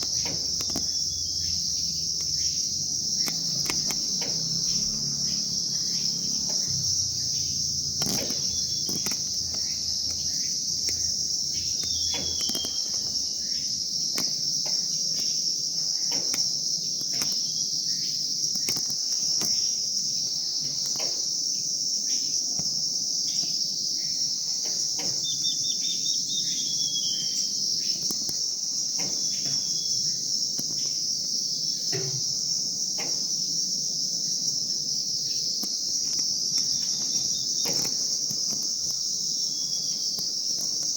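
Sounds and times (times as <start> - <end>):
bird chirps and twittering: 0.0 - 21.1, 23.2 - 31.0, 35.2 - 40.9
high-pitched insect drone: 0.0 - 40.9.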